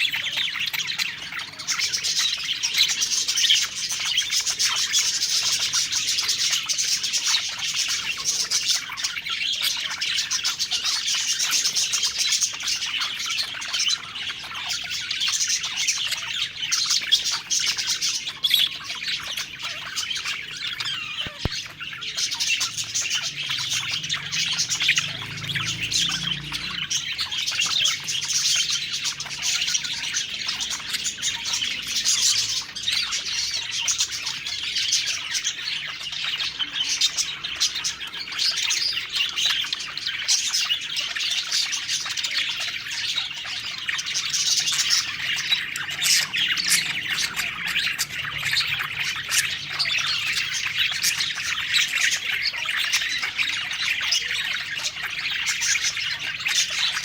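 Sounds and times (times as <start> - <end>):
budgies chattering and warbling: 0.0 - 57.0.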